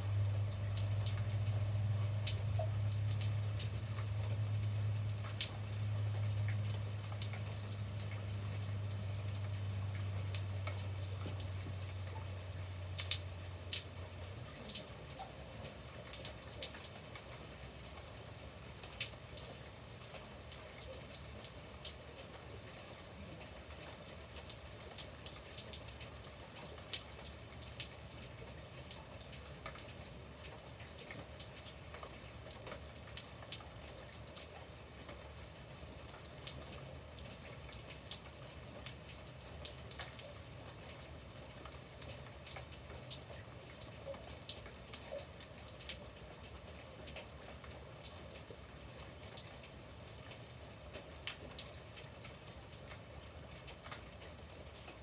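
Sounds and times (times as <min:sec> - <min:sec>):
rain on paved path and plants: 0:00.0 - 0:55.0.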